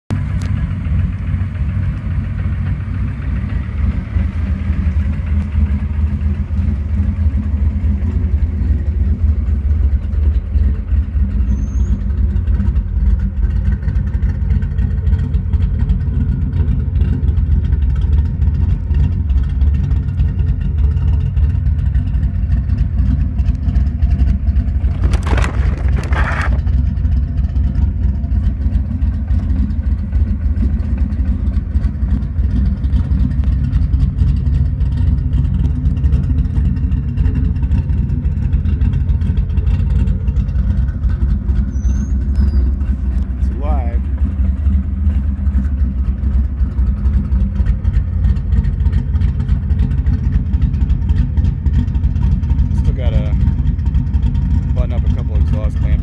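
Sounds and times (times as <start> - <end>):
car engine idling: 0.1 - 56.0.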